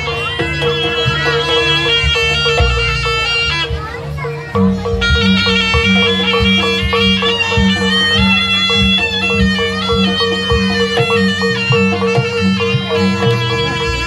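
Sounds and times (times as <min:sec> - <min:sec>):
drum strokes: 0:00.0 - 0:14.0
low held tones: 0:00.0 - 0:14.0
reedy wind instrument melody: 0:00.0 - 0:14.0.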